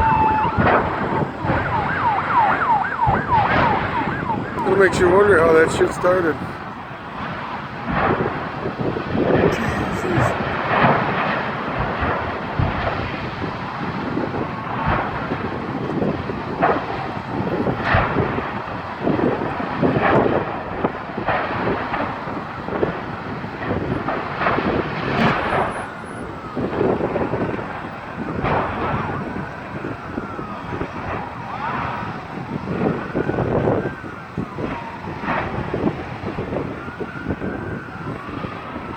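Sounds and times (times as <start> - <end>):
large fire roaring: 0.0 - 38.9.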